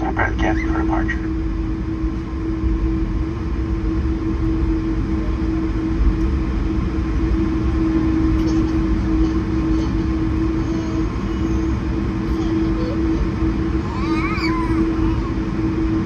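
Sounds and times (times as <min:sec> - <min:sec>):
airliner cabin rumble: 0:00.0 - 0:16.0
constant hum: 0:00.0 - 0:16.0.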